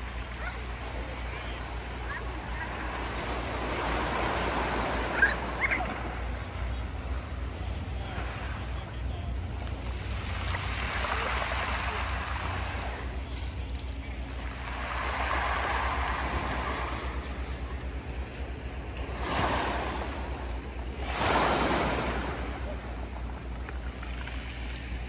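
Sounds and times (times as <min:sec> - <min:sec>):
waves washing up pebble beach: 0:00.0 - 0:25.0.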